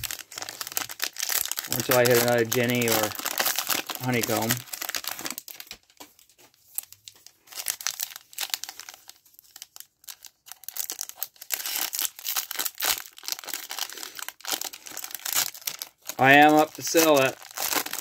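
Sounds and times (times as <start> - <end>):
foil wrapper crinkling and tearing: 0.0 - 18.0.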